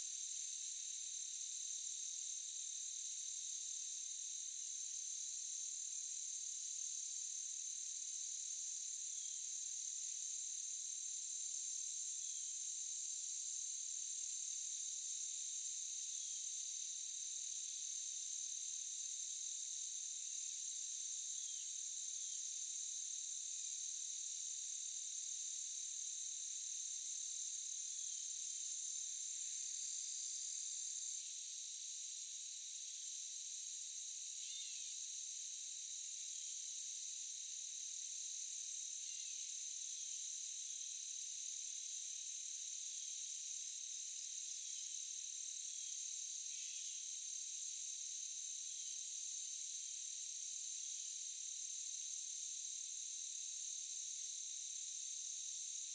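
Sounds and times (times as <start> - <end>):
crickets chirping: 0.1 - 11.4, 12.0 - 55.9.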